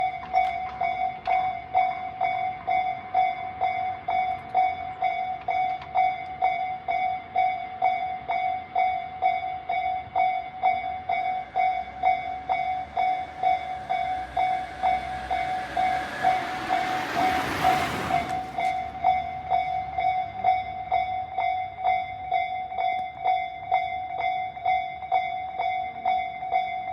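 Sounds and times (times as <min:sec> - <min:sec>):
level crossing electronic bell: 0:00.0 - 0:26.9
train passing: 0:00.0 - 0:26.9.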